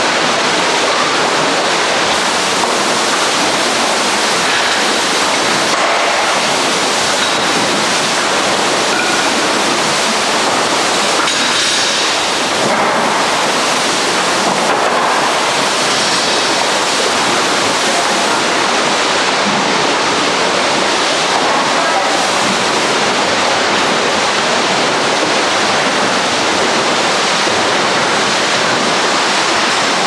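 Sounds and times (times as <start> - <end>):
churned water rushing: 0.0 - 30.0.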